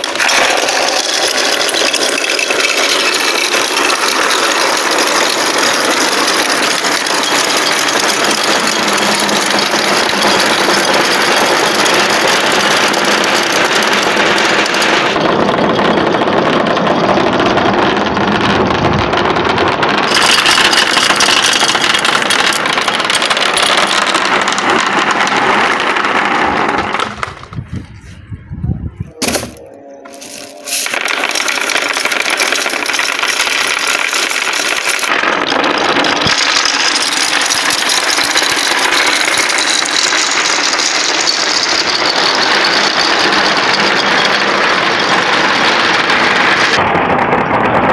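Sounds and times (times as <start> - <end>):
marbles rattling down track: 0.0 - 27.7, 29.2 - 46.8.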